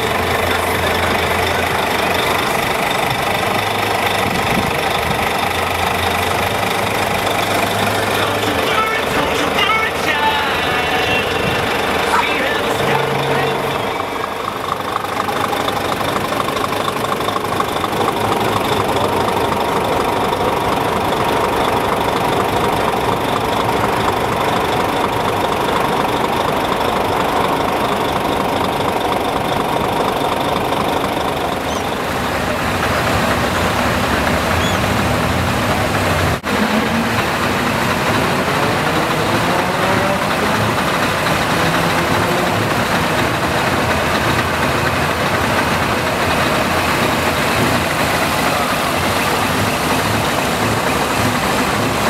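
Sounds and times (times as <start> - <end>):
truck diesel engines idling: 0.0 - 52.0.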